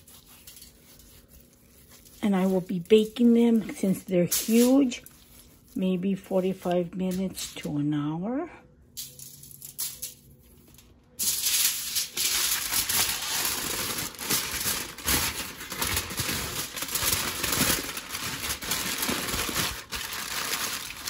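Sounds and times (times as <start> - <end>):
aluminium foil crinkling: 0.0 - 5.8, 9.6 - 21.0.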